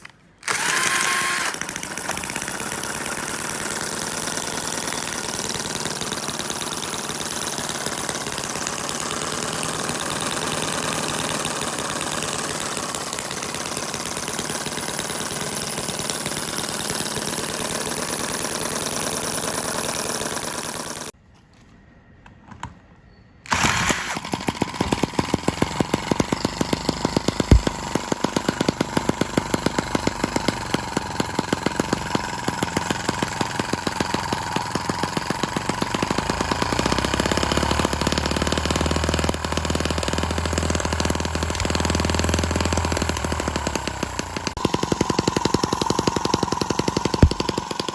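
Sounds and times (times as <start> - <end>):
model engine fast firing beat: 0.4 - 21.1, 23.5 - 47.9
small model engine running: 0.4 - 21.1, 23.5 - 47.9.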